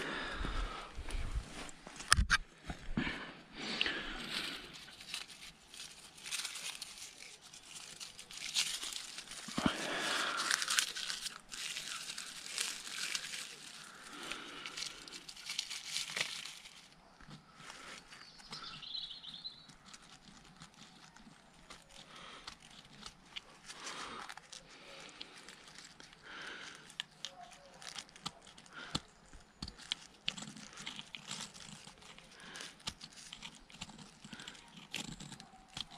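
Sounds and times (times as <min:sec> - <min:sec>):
dry leaves rustling and crackling: 0:03.6 - 0:35.9.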